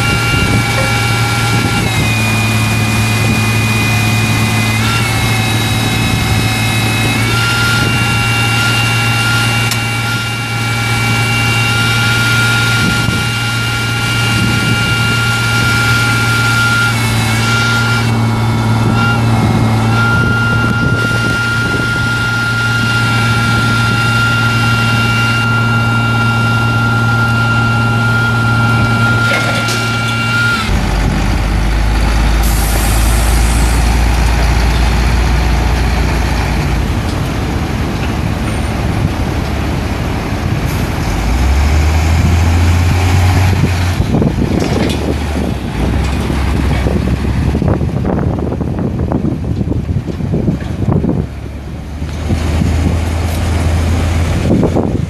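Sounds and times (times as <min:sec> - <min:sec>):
diesel truck engine running: 0:00.0 - 0:55.0
hydraulic pump whine: 0:00.0 - 0:55.0.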